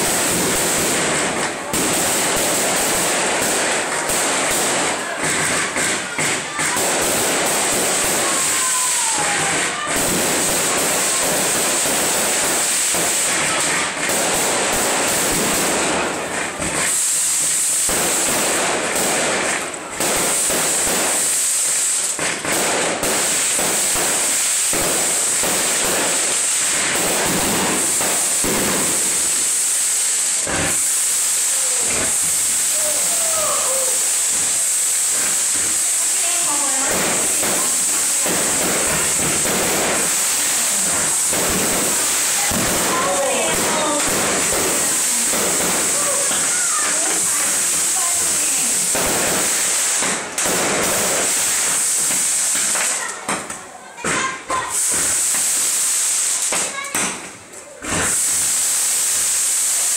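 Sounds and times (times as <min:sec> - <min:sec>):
firework whistling: 0:00.0 - 0:53.6, 0:54.2 - 0:59.9
firework hissing: 0:00.0 - 0:59.9.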